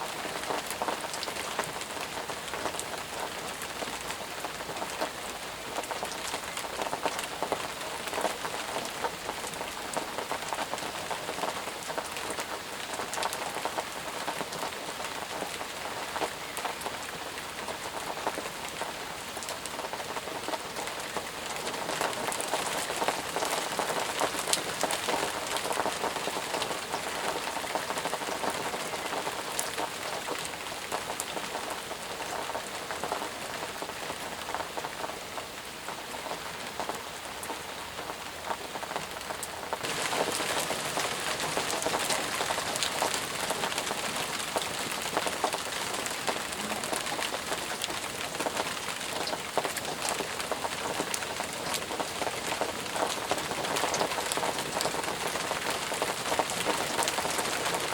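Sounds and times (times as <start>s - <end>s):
hiss of downpour: 0.0s - 57.9s
rain drops pattering: 0.0s - 57.9s.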